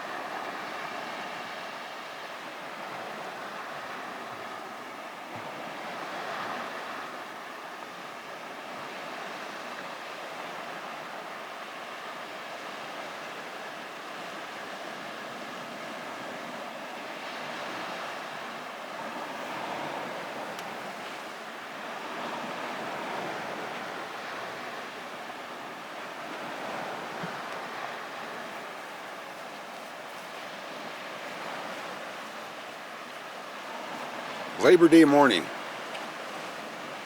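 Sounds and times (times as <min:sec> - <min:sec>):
waves washing against shore: 0:00.0 - 0:37.0.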